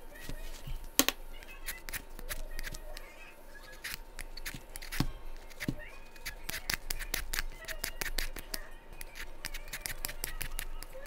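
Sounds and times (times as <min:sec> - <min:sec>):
peeler scraping potato skin: 0:01.4 - 0:11.0.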